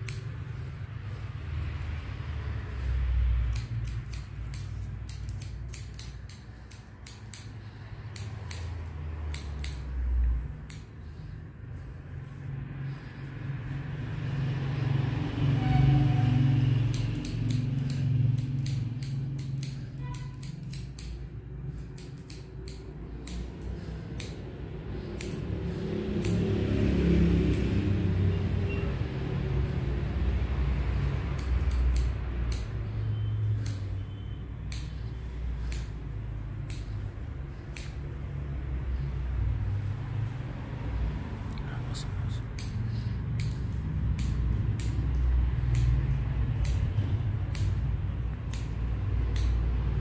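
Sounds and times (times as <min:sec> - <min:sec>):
scissors snipping hair: 0:00.0 - 0:12.2, 0:16.0 - 0:40.8, 0:41.4 - 0:50.0.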